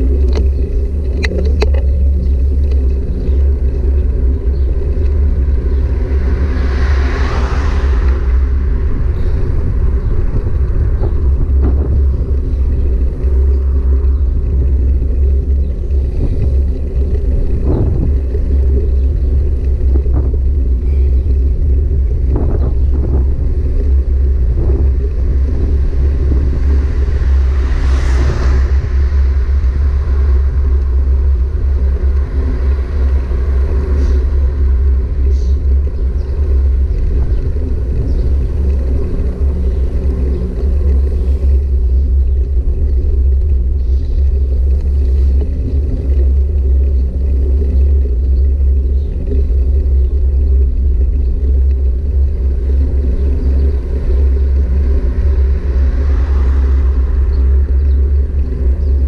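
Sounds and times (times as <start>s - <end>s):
low rumble of bike ride: 0.0s - 59.0s.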